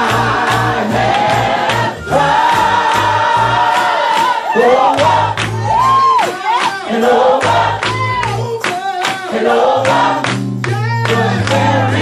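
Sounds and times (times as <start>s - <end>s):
gospel voices singing over a beat: 0.0s - 12.0s.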